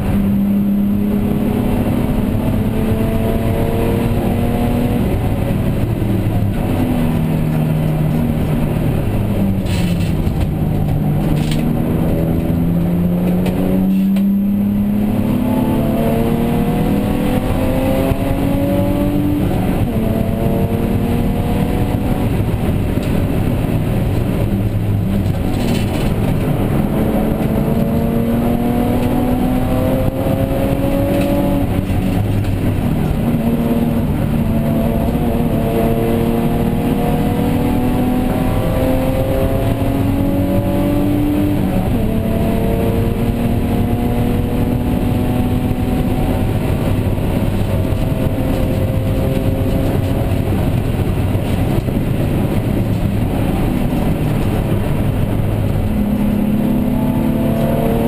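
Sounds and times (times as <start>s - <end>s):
race car engine pulling hard: 0.0s - 58.0s.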